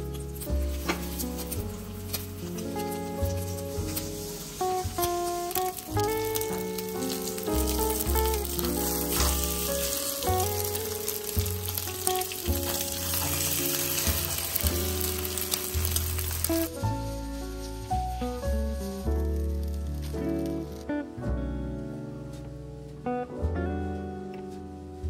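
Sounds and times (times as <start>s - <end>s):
patties sizzling in a pan: 0.0s - 20.4s
background music with bass line: 0.0s - 25.0s.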